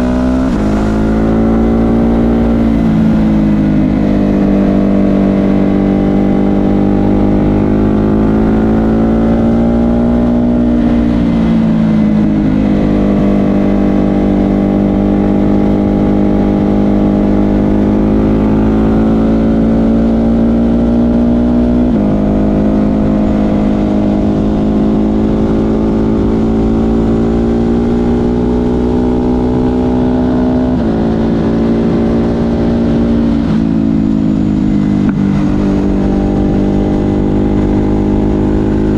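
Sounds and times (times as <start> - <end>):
motorcycle engine under load: 0.0 - 38.9.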